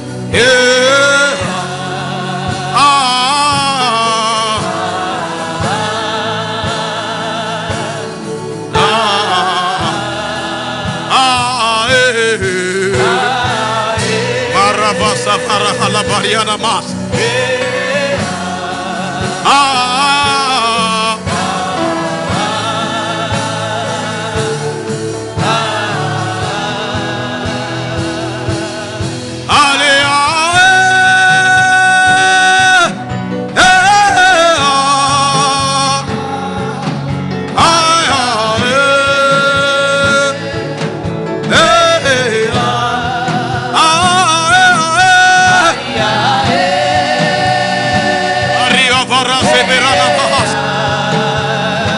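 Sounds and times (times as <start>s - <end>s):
instrumental backing: 0.0s - 51.9s
person singing gospel: 0.0s - 51.9s.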